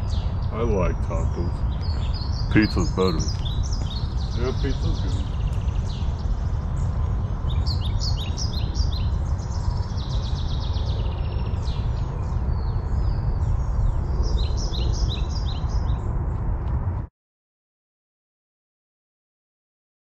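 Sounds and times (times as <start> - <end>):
small birds chirping: 0.0 - 16.4
steady low rumble: 0.0 - 17.1.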